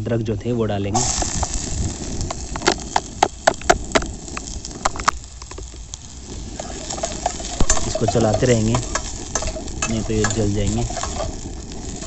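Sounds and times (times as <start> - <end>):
garlic sizzling in hot oil: 0.2 - 12.0
oil crackling pops: 0.9 - 12.0.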